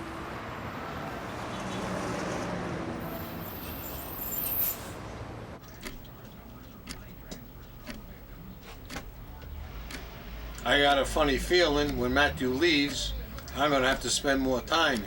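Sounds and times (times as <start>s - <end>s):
rushing street traffic: 0.0s - 15.0s.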